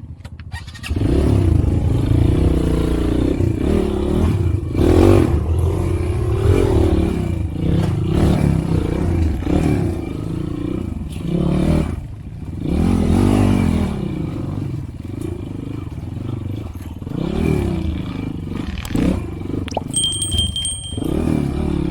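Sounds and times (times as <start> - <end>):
motorcycle engine revving: 0.5 - 19.7.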